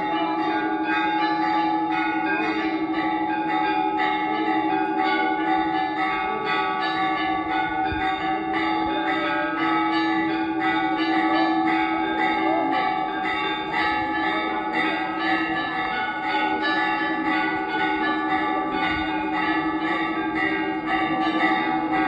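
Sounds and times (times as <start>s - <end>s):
temple bells ringing: 0.0s - 22.0s.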